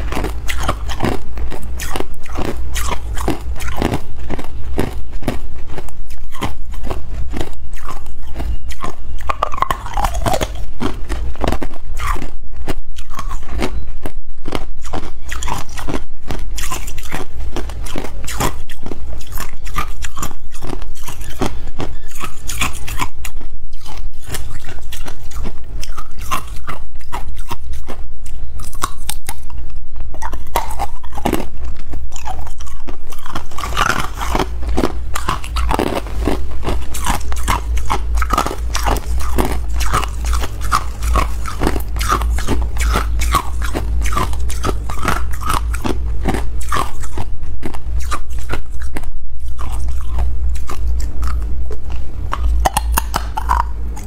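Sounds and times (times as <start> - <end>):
ice being chewed: 0.0 - 54.0
steady low hum: 0.0 - 54.0.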